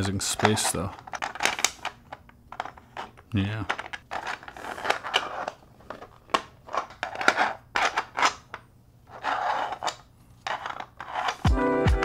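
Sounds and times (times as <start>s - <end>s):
plastic pieces clicking: 0.0s - 11.4s
plastic pieces scraping: 0.0s - 11.5s.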